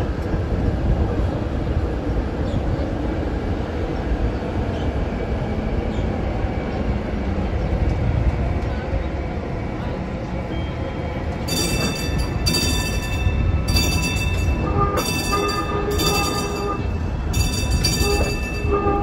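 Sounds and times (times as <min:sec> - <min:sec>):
streetcar rumbling: 0:00.0 - 0:19.0.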